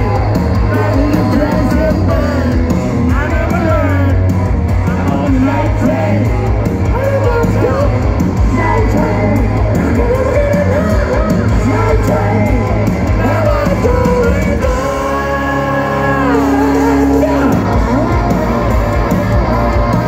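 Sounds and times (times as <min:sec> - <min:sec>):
male lead vocal singing: 0:00.0 - 0:18.4
live rock band: 0:00.0 - 0:20.0.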